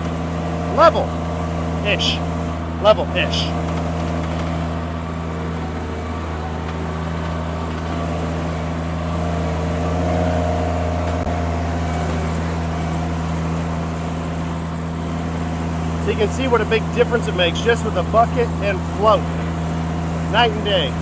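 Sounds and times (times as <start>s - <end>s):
higher machine tone: 0.0s - 21.0s
skid steer engine running: 0.0s - 21.0s.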